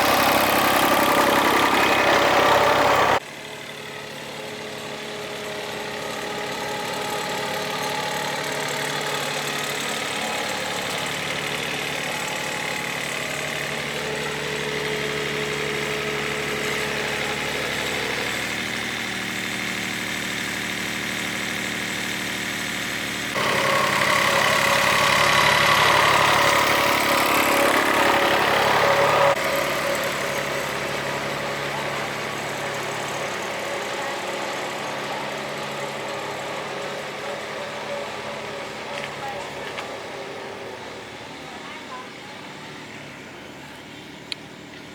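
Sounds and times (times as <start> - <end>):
agricultural machine engine idling: 0.0 - 44.9.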